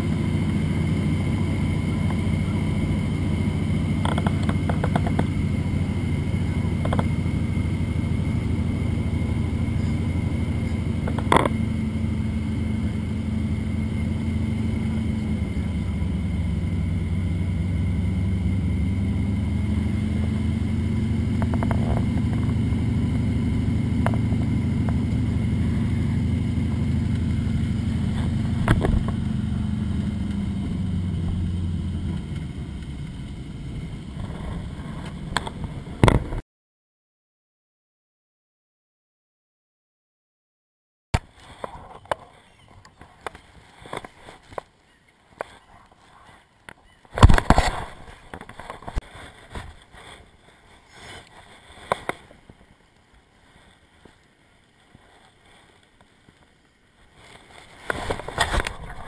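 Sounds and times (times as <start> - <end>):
plane engine and propeller drone: 0.0 - 36.4, 41.2 - 59.0.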